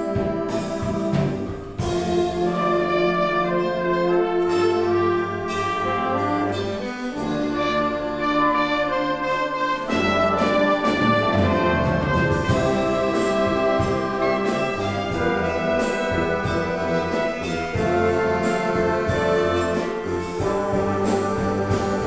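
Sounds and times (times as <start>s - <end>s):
wind band playing: 0.0s - 22.0s.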